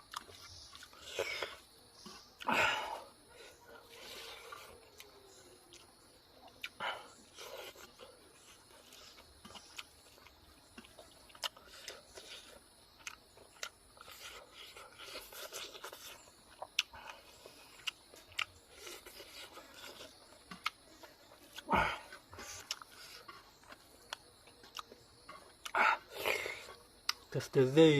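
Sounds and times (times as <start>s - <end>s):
person chewing food: 0.0s - 27.4s.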